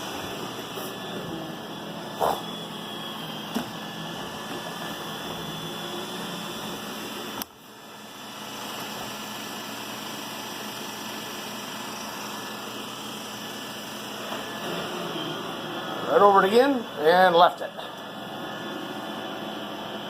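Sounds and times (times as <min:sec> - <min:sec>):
robot vacuum whirring: 0:00.0 - 0:16.1.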